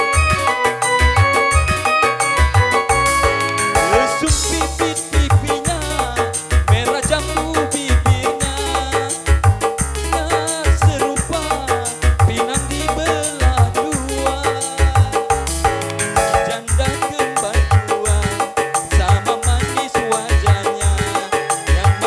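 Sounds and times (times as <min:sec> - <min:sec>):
live keyboard dance music: 0:00.0 - 0:22.0.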